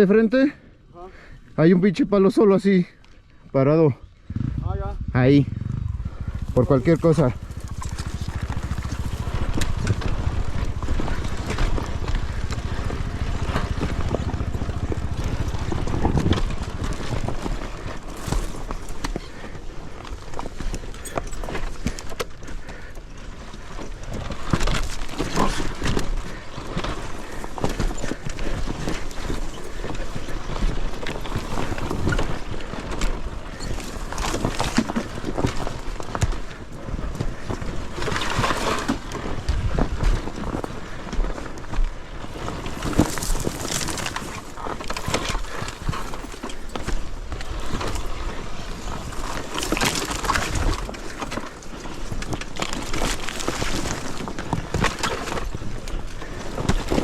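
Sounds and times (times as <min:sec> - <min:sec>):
dirt bike engine: 0:04.1 - 0:57.0.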